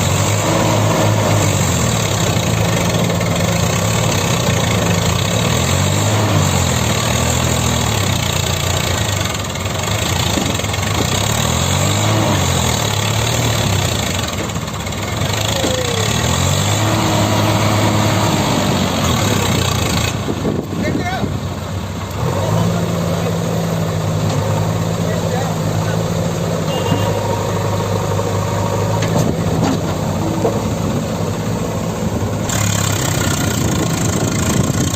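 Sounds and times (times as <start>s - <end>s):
diesel engine revving: 0.0s - 34.9s.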